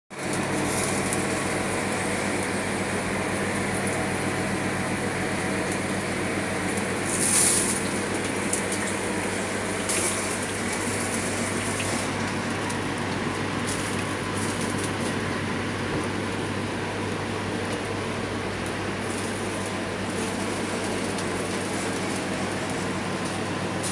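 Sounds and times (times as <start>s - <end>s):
grill machine humming and hissing: 0.1s - 23.9s.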